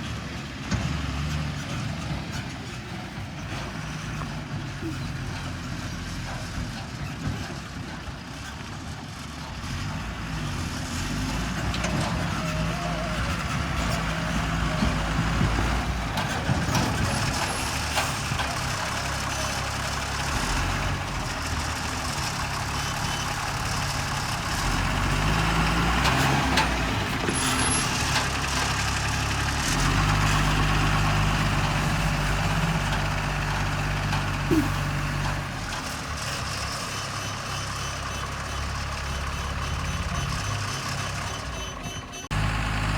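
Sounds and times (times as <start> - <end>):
diesel engine revving under load: 0.0 - 42.9.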